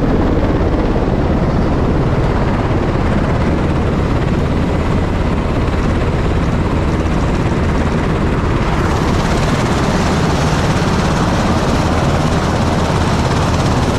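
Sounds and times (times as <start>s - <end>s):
helicopter running: 0.0s - 13.9s.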